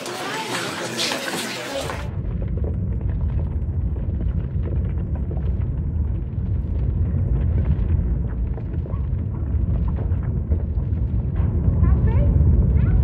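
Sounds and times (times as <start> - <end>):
fire crackling: 0.0 - 13.0
fire roaring: 0.0 - 13.0.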